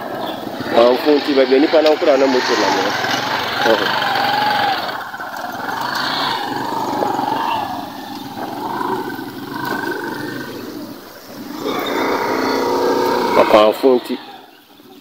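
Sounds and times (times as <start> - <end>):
motorbike engine running: 0.0 - 13.7.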